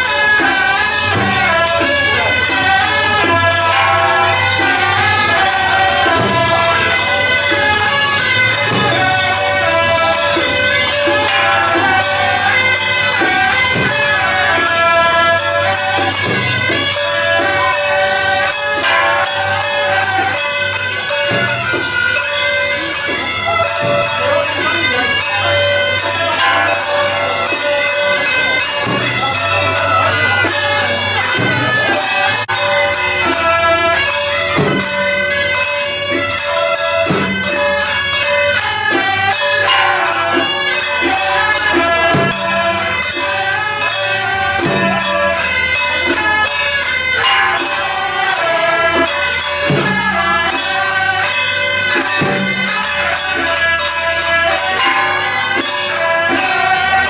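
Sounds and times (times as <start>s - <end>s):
cymbals: 0.0s - 57.0s
drums beating: 0.0s - 57.0s
suona shawm melody: 0.0s - 57.0s.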